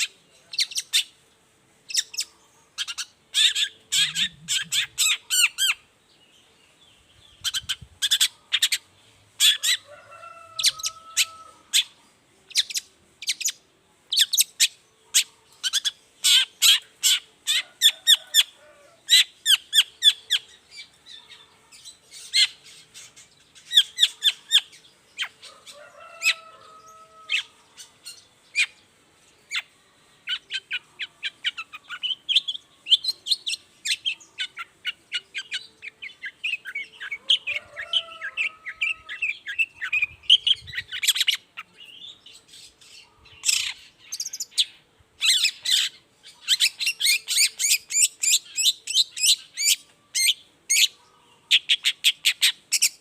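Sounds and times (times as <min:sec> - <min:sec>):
bird chattering song: 0:00.0 - 0:01.2, 0:01.8 - 0:06.0, 0:06.6 - 0:09.9, 0:10.6 - 0:53.0.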